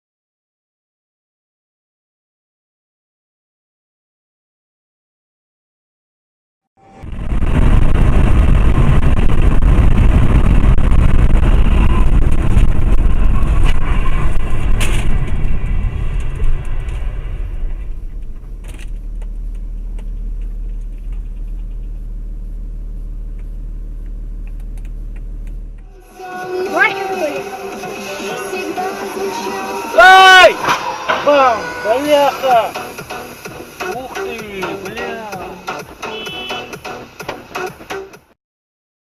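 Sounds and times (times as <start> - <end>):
car road and engine noise: 6.8 - 38.3.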